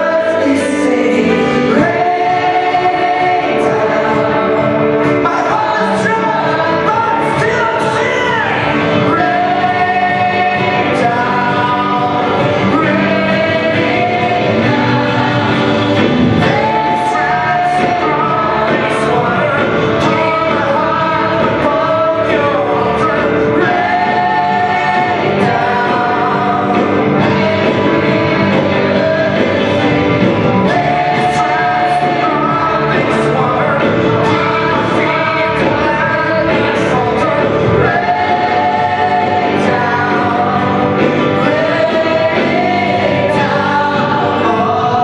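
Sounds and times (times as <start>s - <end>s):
group of singers: 0.0s - 45.0s
rock worship band playing: 0.0s - 45.0s.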